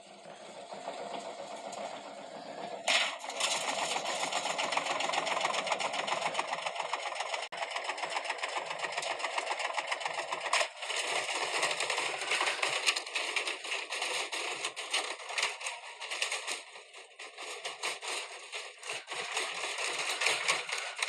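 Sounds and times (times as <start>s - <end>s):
washing machine rattling: 2.8s - 21.0s.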